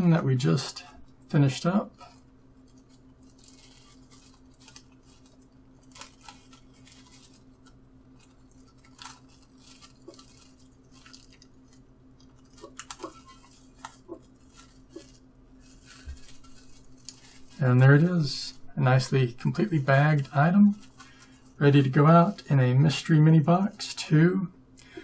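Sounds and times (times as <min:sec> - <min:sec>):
steady low hum: 0:00.0 - 0:25.0
thin plastic crinkling: 0:00.7 - 0:23.1.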